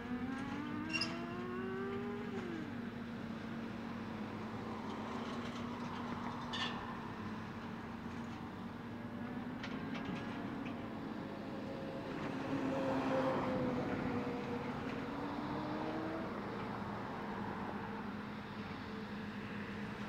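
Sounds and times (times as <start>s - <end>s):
excavator diesel engines droning: 0.0s - 20.0s.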